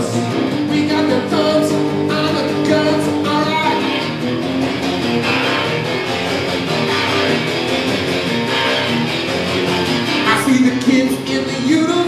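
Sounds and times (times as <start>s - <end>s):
acoustic guitar strummed fast: 0.0s - 12.0s.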